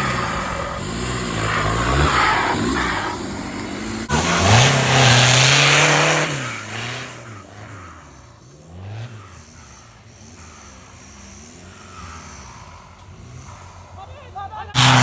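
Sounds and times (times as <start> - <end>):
engine revving hard: 0.0 - 15.0.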